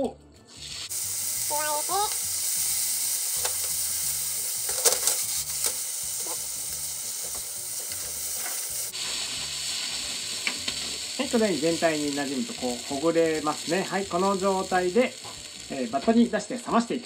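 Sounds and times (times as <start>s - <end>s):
noodles sizzling in frying pan: 0.5s - 17.0s.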